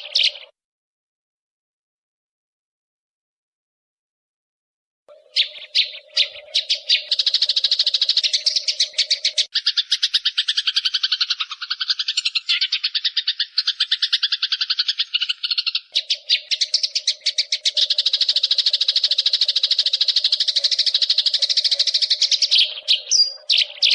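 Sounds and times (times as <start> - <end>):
small songbirds chirping: 0.0 - 0.6, 5.1 - 23.9.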